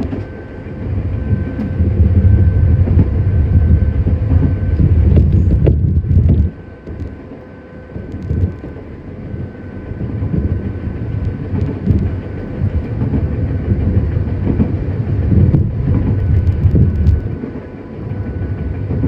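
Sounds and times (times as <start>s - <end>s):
faint steady tones: 0.0s - 19.0s
train wheels rumbling on rails: 0.0s - 19.0s.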